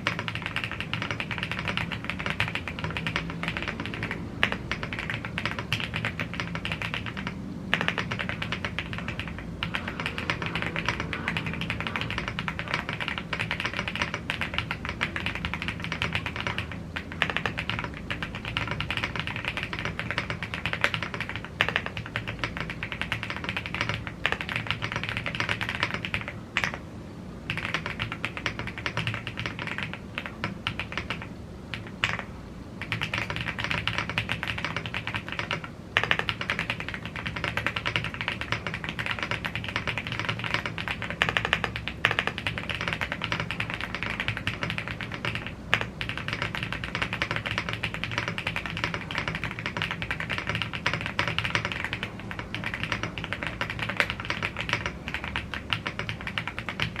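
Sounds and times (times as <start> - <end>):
fast typing on mechanical keyboard: 0.0 - 57.0.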